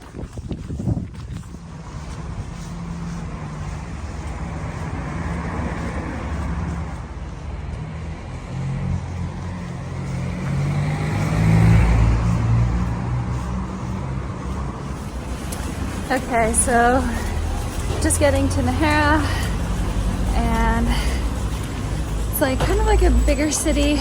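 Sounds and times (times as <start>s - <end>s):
deep engine hum: 0.0s - 24.0s
vehicles passing on highway: 0.0s - 24.0s.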